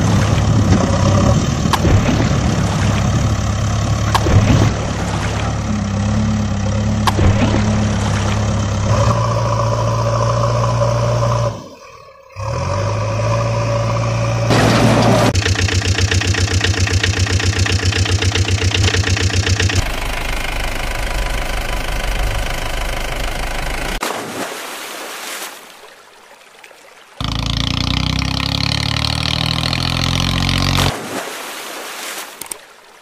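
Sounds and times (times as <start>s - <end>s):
engine sound effects: 0.0s - 24.0s, 27.2s - 31.0s.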